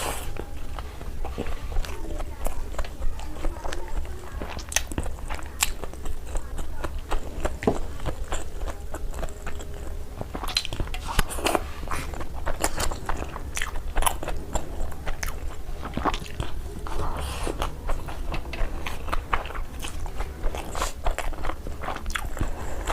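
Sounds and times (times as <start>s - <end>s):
person chewing crunchy food: 0.0s - 22.9s
steady low hum: 0.0s - 22.9s.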